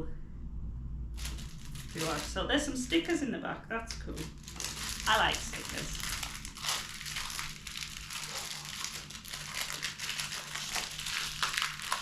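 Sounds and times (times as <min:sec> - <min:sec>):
packaging crinkling and rustling: 0:01.2 - 0:03.1, 0:04.1 - 0:12.0.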